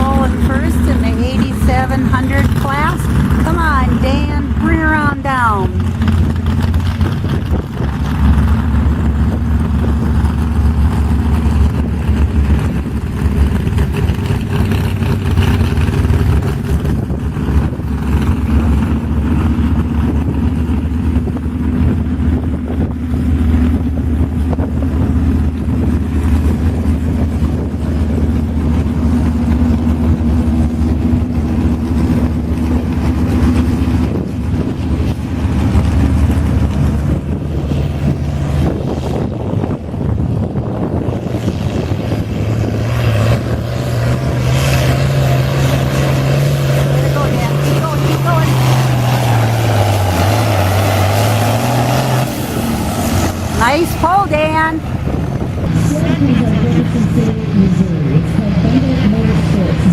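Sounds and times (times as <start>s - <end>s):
tractor engine at full throttle: 0.0s - 59.9s.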